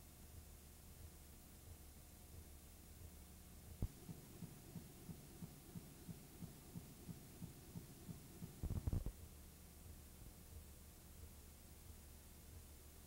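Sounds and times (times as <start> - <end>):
faint low hum: 0.0 - 13.0
soft regular thumps: 0.4 - 12.8.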